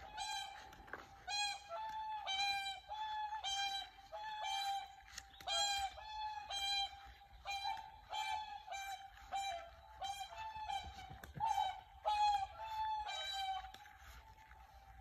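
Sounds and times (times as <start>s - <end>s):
swans trumpeting: 0.0s - 15.0s.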